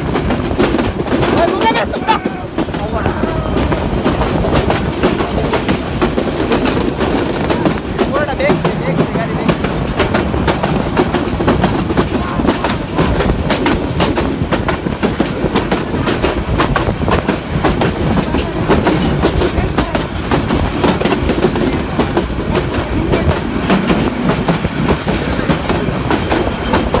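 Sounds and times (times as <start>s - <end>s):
steady rushing noise: 0.0s - 27.0s
train wheels clattering over joints: 0.0s - 27.0s.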